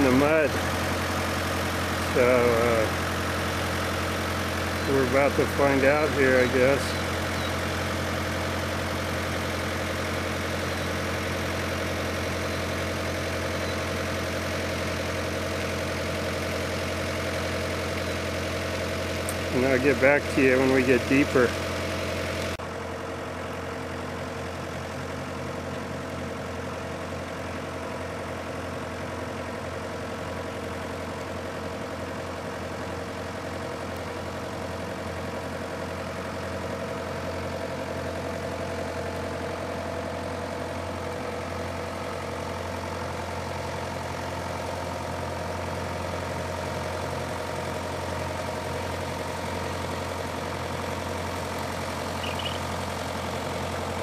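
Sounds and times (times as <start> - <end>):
tractor engine humming: 0.0 - 54.0.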